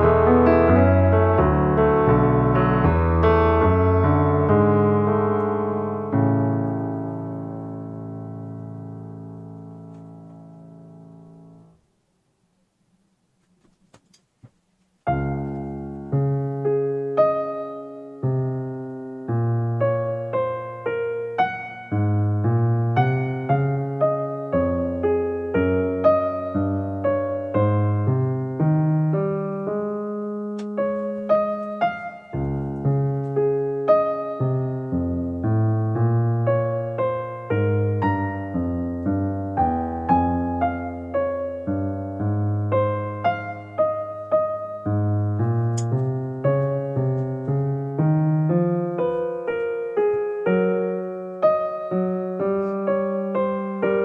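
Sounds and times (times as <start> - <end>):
piano-like keyboard music: 0.0 - 11.8, 15.0 - 54.0.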